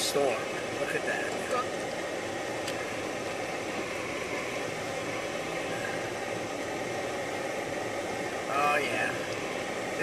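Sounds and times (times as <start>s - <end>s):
car engine running inside car: 0.0s - 10.0s.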